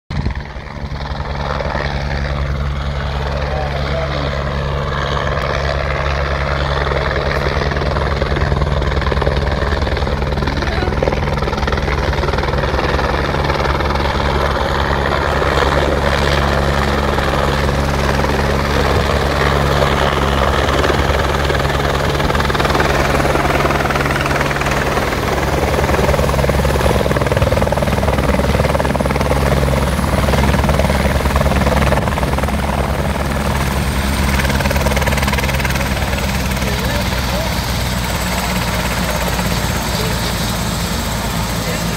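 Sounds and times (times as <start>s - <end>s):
helicopter rotor beat: 0.1s - 41.9s
high turbine whine: 0.1s - 41.9s.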